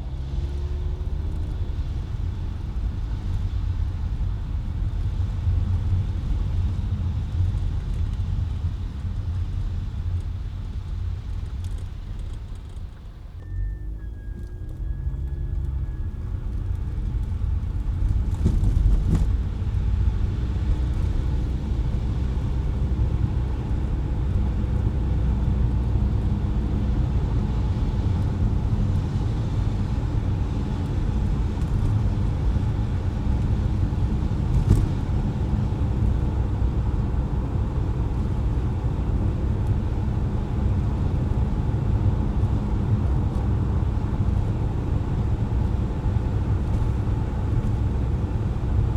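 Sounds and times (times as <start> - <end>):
car driving on wet streets: 0.0 - 48.9.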